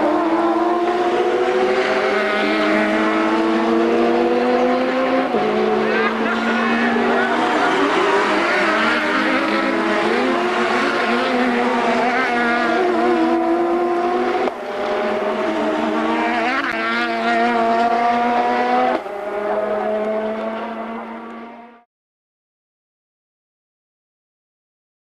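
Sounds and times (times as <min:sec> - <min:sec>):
racing cars revving past: 0:00.0 - 0:21.8.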